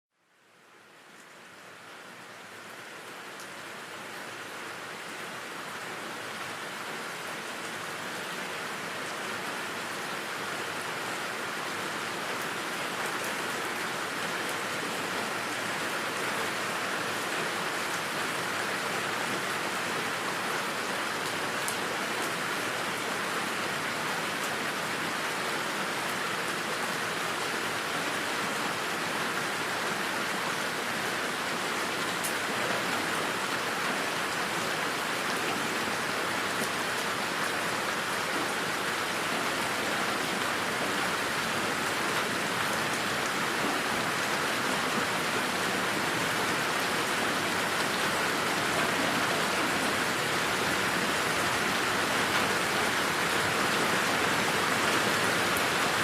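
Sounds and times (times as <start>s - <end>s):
steady rain falling: 0.2s - 56.0s.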